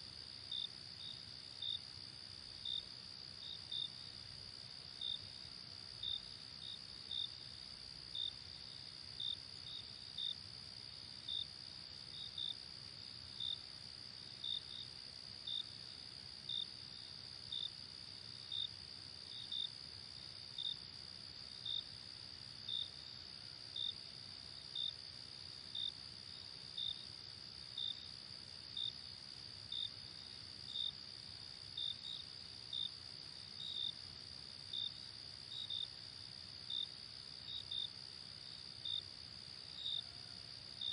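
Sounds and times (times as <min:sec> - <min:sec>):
cricket chirp: 0:00.0 - 0:40.9.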